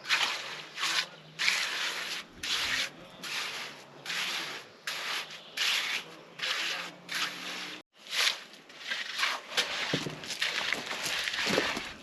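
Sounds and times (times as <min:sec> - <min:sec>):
trowel scraping wet concrete: 0:00.0 - 0:12.0.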